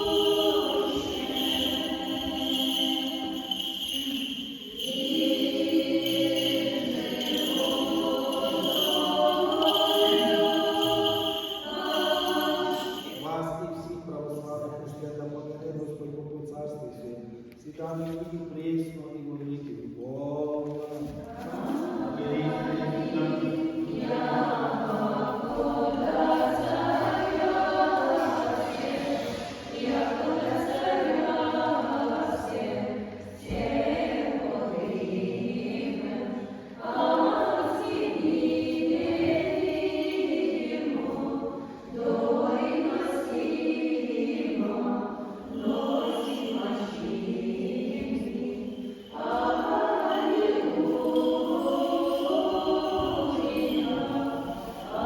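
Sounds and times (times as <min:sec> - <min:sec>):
choir singing unaccompanied chant: 0:00.0 - 0:13.4, 0:21.0 - 0:55.0.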